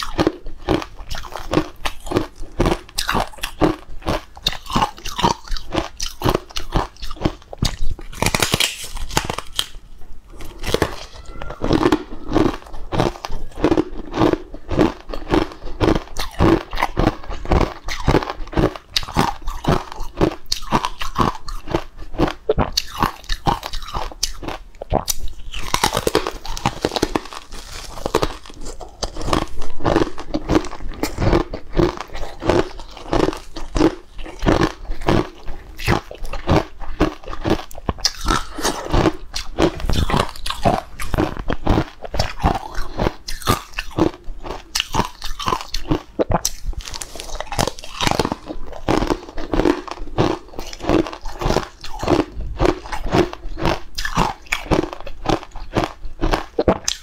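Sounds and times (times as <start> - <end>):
biting and chewing crunches: 0.0 - 57.0.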